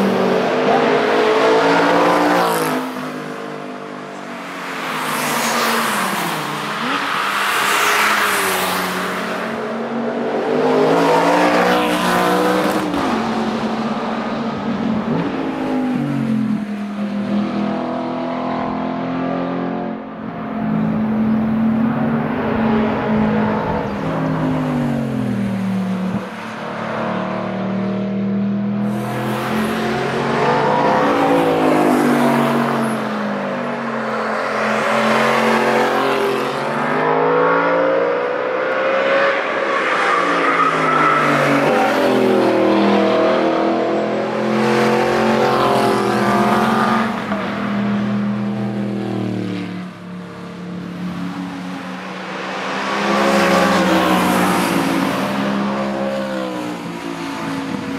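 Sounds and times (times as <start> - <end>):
sports cars accelerating past: 0.0 - 57.9.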